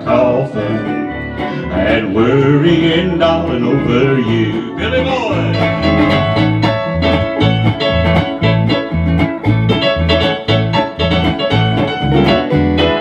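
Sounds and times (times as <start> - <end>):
bass alternating two notes: 0.0 - 13.0
electric keyboard piano: 0.0 - 13.0.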